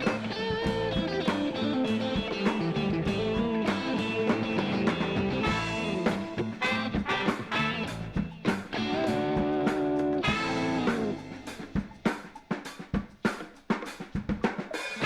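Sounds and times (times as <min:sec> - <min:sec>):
groovy funk background music: 0:00.0 - 0:15.0.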